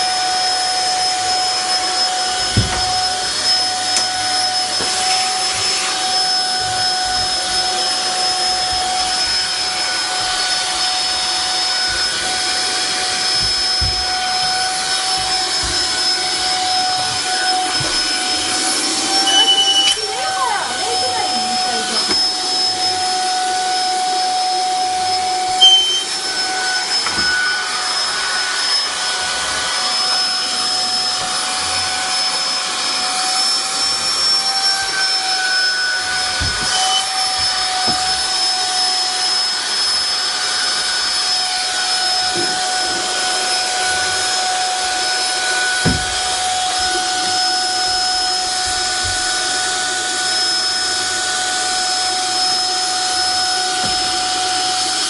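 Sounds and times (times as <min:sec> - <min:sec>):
vacuum cleaner whining: 0:00.0 - 0:55.0.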